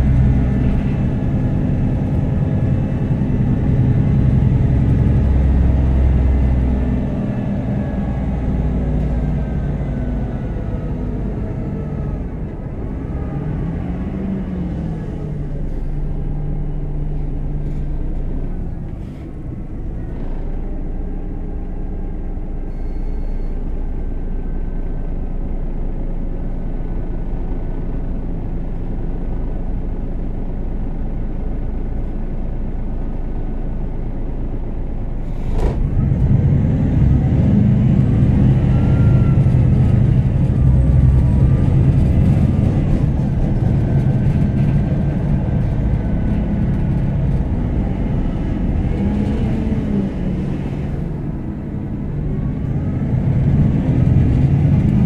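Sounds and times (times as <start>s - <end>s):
bus engine humming: 0.0s - 55.0s.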